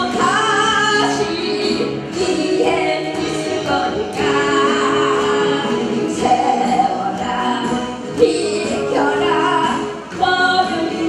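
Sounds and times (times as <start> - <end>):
amplified backing track: 0.0 - 11.0
woman singing into microphone: 0.0 - 11.0.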